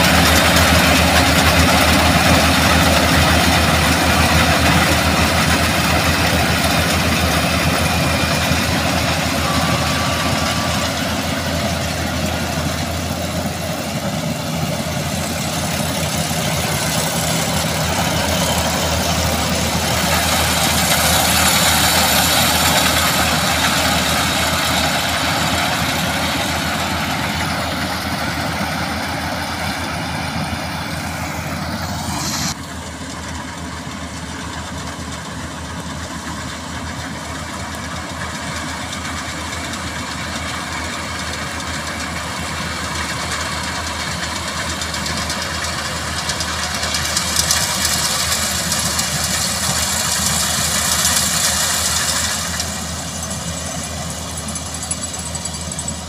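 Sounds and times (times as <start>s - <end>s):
harvester cutting hiss: 0.0s - 33.5s, 38.2s - 56.0s
combine harvester engine drone: 0.0s - 56.0s.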